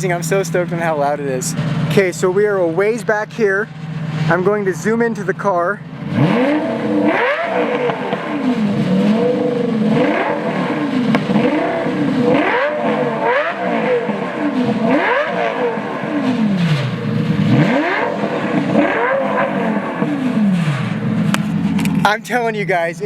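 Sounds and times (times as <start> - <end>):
sports car engine revving loudly: 0.0 - 22.4.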